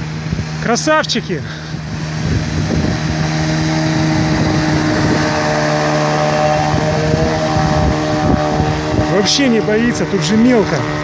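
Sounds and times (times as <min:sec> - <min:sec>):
outboard motor running: 0:00.0 - 0:11.0
river water rushing: 0:00.0 - 0:11.0.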